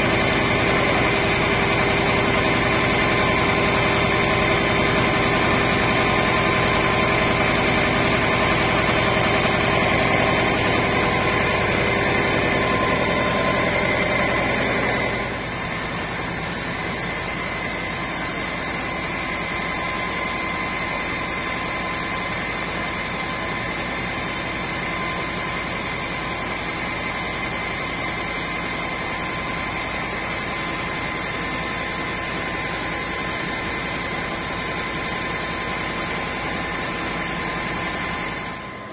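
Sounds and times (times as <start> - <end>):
heavy engine running: 0.0 - 38.9
thin steady whine: 0.0 - 38.9.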